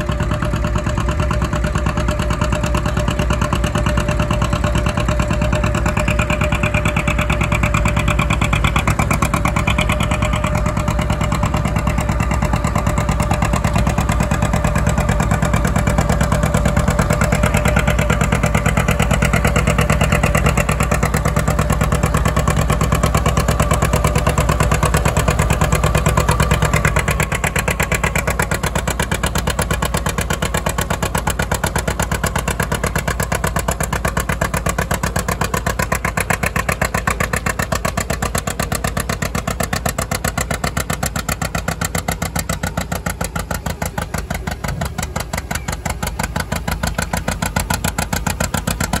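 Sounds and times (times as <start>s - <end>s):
tractor engine popping under load: 0.0s - 49.0s.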